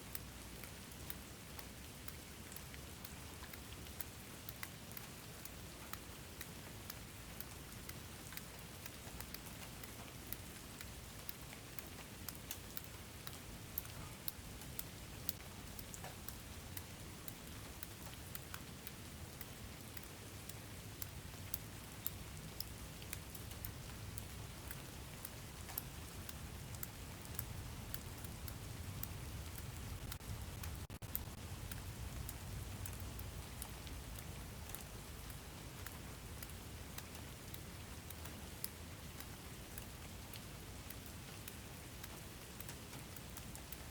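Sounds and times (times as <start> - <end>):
low rumble of rainfall: 0.0 - 43.9
raindrops ticking on hard surface: 0.0 - 43.9.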